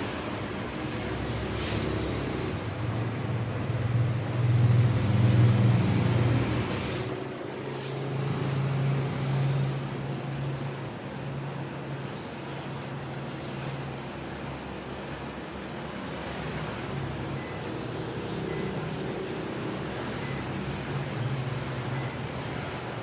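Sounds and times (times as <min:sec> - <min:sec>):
air conditioner airflow hiss: 0:00.0 - 0:23.0
passing road vehicles hum: 0:00.0 - 0:23.0.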